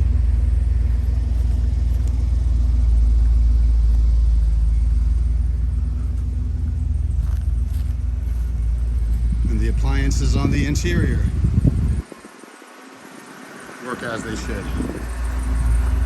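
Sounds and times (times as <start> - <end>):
generator humming: 0.0 - 16.0.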